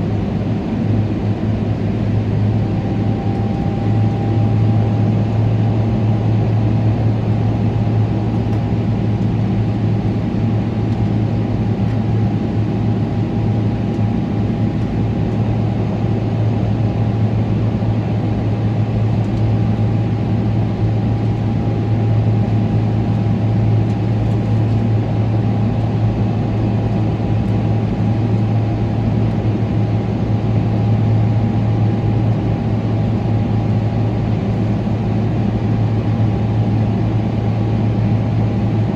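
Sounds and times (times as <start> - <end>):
airplane cabin hum: 0.0 - 38.9.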